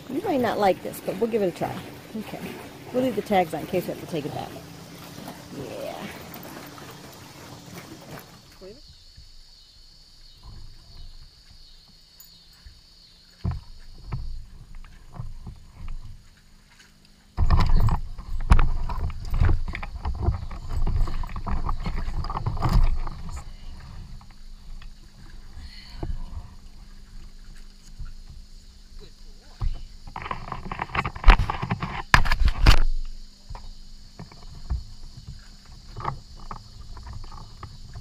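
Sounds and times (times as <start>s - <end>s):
knocks and scraping on kayak hull: 0.0s - 9.4s, 10.2s - 38.0s.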